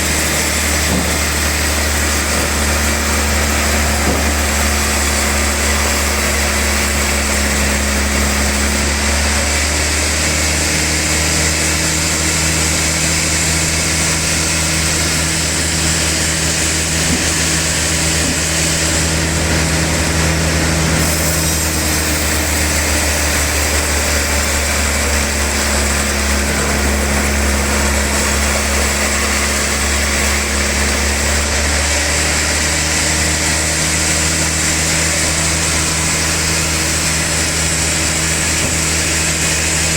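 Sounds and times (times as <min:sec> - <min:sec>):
log saw running: 0:00.0 - 0:39.9.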